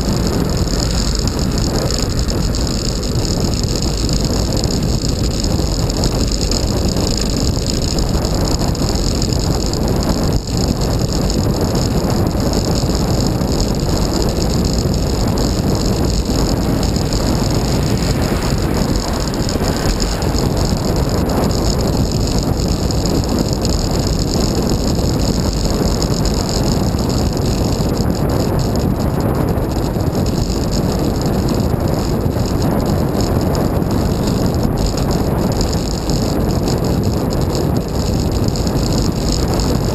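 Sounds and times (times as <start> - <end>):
wind and road noise: 0.0 - 39.9
wind buffeting microphone: 0.0 - 39.9.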